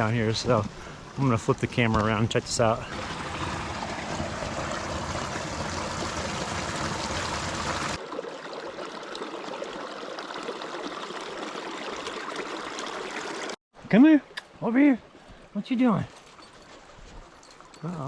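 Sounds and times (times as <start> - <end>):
creek water flowing: 0.0 - 18.0.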